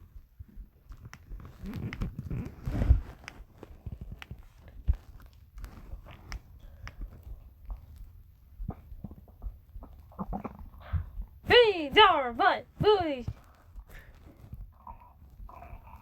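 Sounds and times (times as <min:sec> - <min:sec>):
stomach growling: 0:00.9 - 0:11.4, 0:13.4 - 0:16.0.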